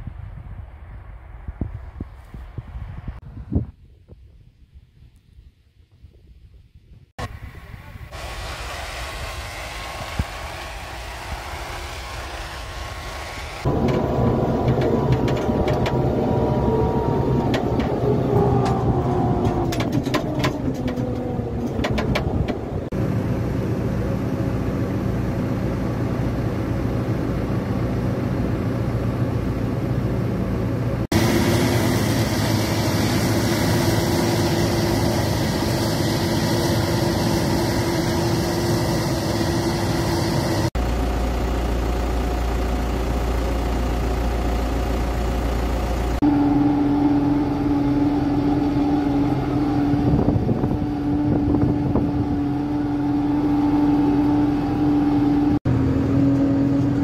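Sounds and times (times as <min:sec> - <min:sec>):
diesel engines running: 0:07.2 - 0:57.0
steady whine: 0:07.2 - 0:57.0.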